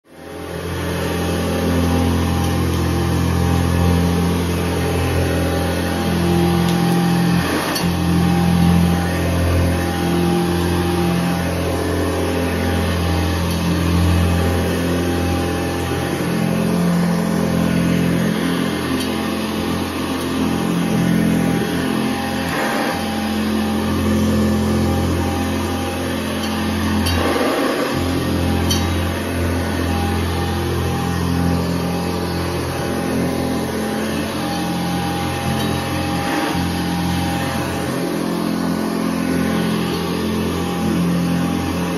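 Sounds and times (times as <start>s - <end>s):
vacuum cleaner running on carpet: 0.0s - 41.9s.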